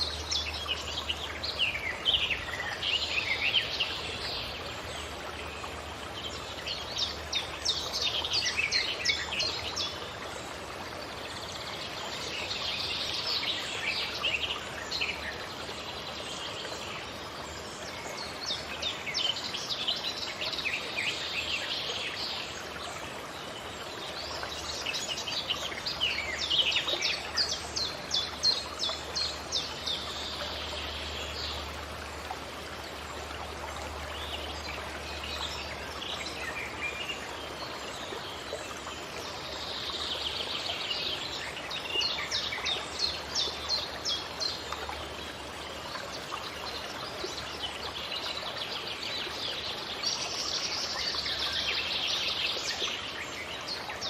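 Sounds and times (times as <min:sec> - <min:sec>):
running water or wind hiss: 0:00.0 - 0:54.0
songbirds chirping: 0:00.0 - 0:54.0.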